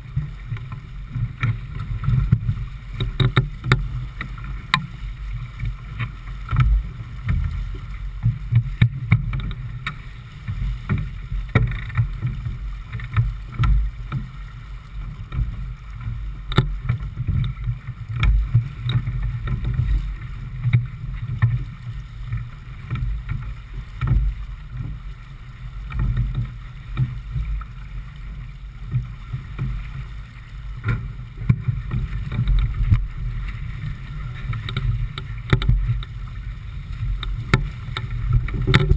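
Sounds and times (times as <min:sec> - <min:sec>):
wind and water rumble: 0:00.0 - 0:38.9.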